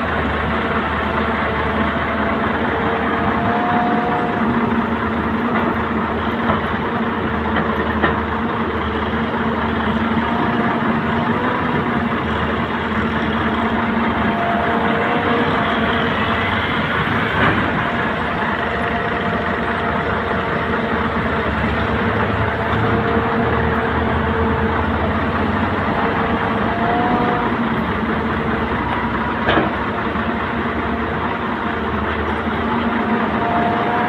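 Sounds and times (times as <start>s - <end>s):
heavy diesel engine running: 0.0s - 34.0s
held whine: 0.0s - 34.0s.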